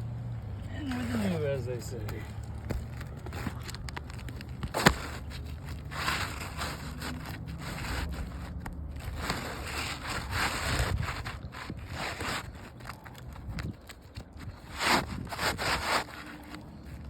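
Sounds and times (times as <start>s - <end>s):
roof shingles scraping together: 3.3s - 17.0s.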